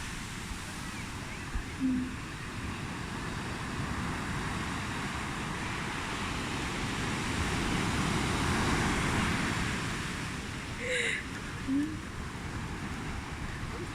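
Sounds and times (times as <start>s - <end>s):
ocean surf washing in: 0.0s - 13.9s.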